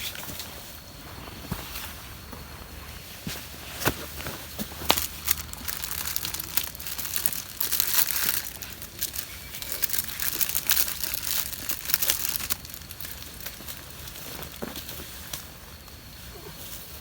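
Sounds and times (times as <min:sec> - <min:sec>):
crinkling and rustling: 0:00.0 - 0:16.0.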